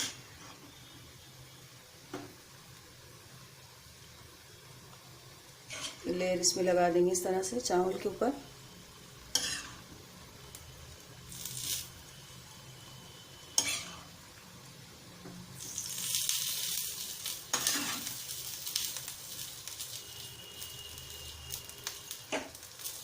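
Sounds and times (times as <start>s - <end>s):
rice sizzling in a pot: 0.0s - 23.0s.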